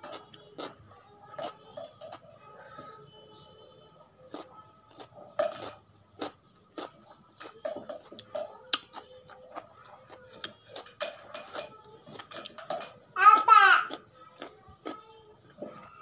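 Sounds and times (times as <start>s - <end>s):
person chewing crunchy pickle: 0.0s - 2.4s, 4.1s - 13.1s, 13.8s - 16.0s.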